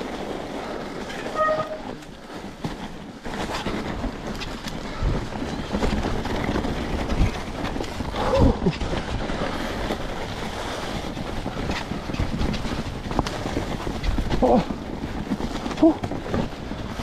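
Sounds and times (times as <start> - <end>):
tyres rumbling over rough ground: 0.0 - 17.0.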